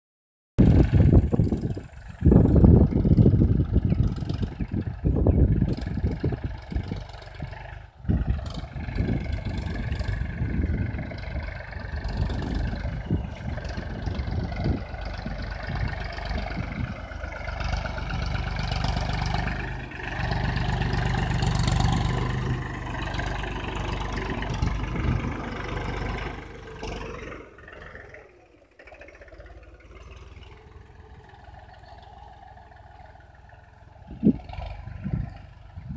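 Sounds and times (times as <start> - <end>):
tractor diesel engine running: 0.6 - 35.9.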